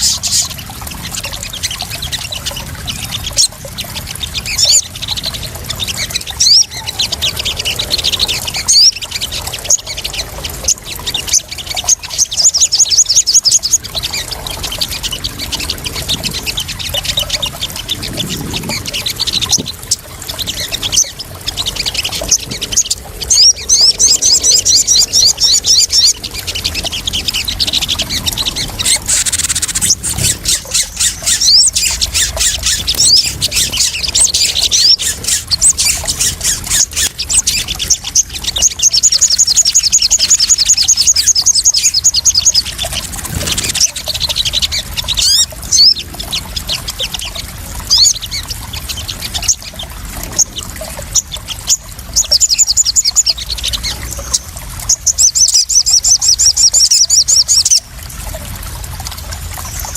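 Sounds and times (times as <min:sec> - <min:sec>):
birds chirping and trilling: 0:00.0 - 0:59.9
water splashing and trickling: 0:00.0 - 0:59.9.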